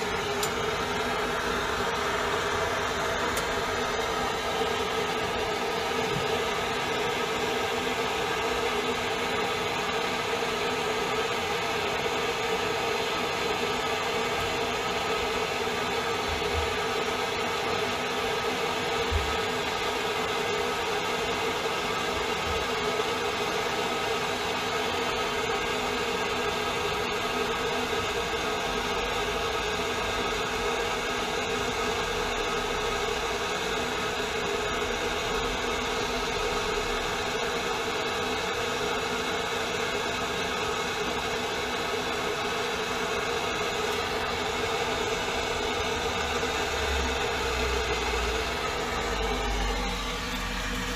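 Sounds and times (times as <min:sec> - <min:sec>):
gas torch hissing: 0:00.0 - 0:50.9.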